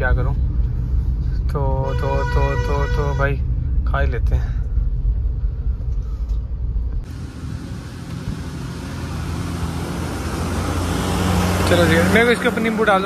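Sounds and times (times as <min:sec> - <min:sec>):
car engine rumble inside cabin: 0:00.0 - 0:13.0
roadside traffic noise: 0:00.0 - 0:13.0
vehicle engine humming nearby: 0:00.0 - 0:13.0.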